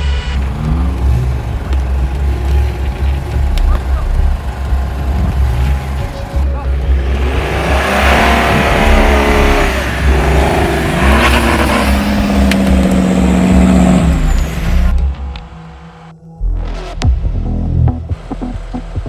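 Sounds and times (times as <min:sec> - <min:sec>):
off-road vehicle engine revving: 0:00.0 - 0:15.4.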